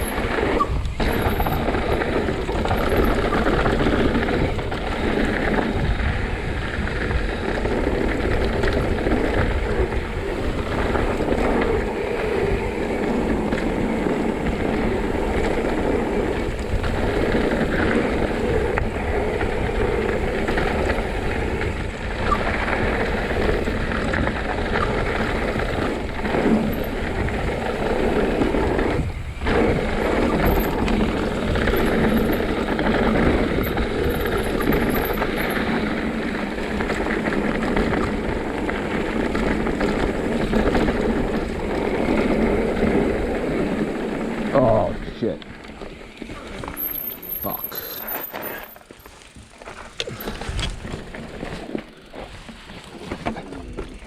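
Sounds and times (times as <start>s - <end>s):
wind buffeting microphone: 0.0s - 47.6s, 49.3s - 54.0s
rumble and rattle of movement: 0.0s - 54.0s.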